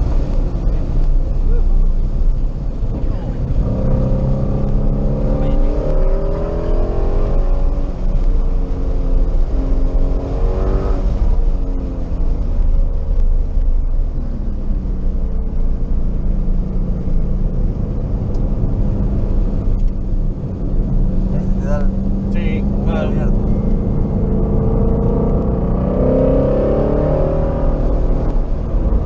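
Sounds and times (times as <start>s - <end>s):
car engine accelerating: 0.0s - 29.0s
road and wind noise: 0.0s - 29.0s.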